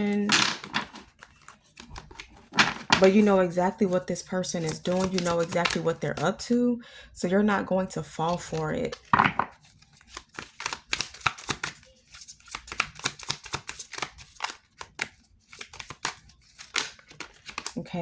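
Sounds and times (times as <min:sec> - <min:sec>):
cards being shuffled: 0:00.2 - 0:06.4, 0:08.2 - 0:17.8.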